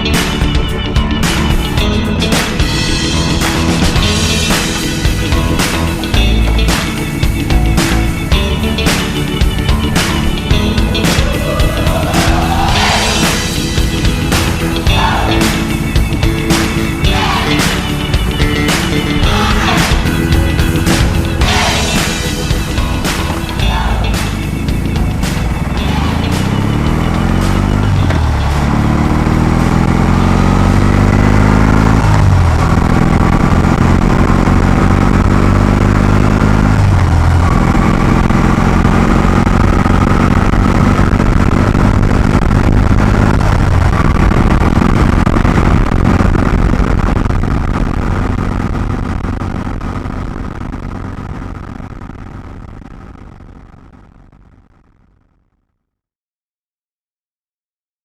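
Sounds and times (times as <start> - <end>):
motorcycle engine accelerating: 0.0 - 55.2.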